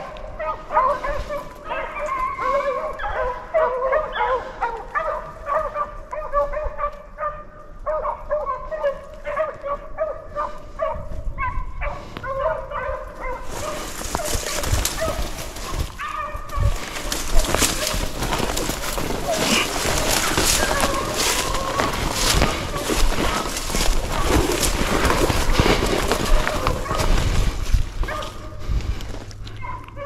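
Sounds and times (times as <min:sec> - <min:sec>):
beagles baying: 0:00.0 - 0:28.8, 0:29.5 - 0:30.0.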